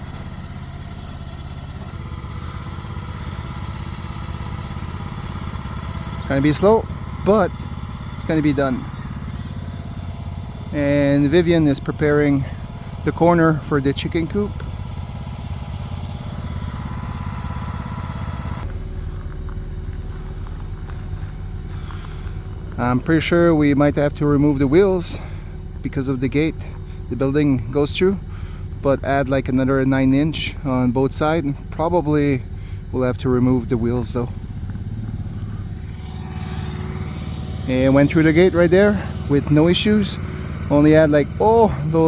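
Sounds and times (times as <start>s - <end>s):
vehicle engine idling low: 0.0s - 42.0s.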